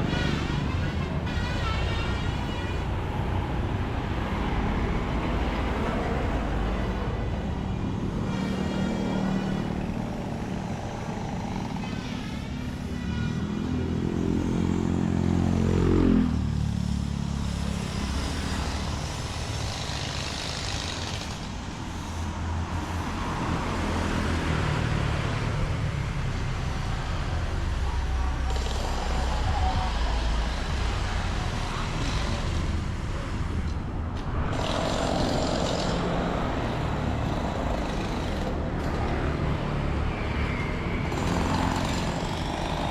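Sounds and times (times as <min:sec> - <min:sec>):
traffic engines rumbling: 0:00.0 - 0:42.9.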